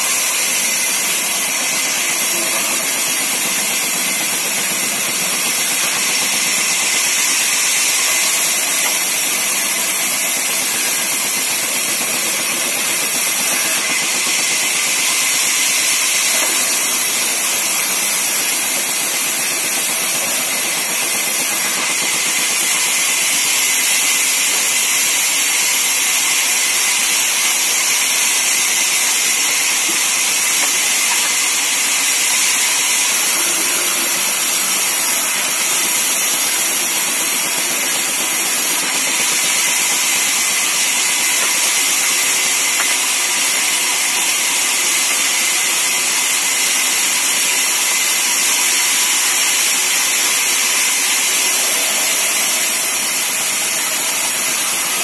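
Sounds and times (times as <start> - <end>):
band saw cutting timber: 0.0 - 55.0.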